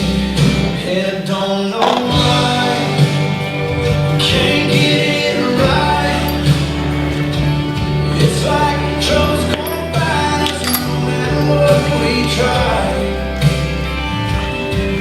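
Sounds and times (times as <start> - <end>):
country song with singing: 0.0 - 15.0.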